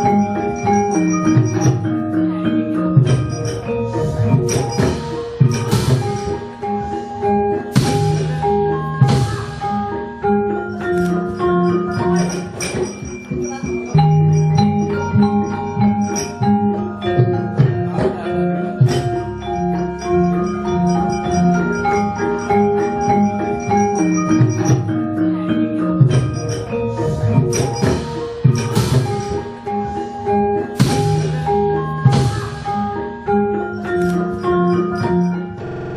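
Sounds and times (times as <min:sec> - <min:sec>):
gamelan ensemble playing: 0:00.0 - 0:35.9.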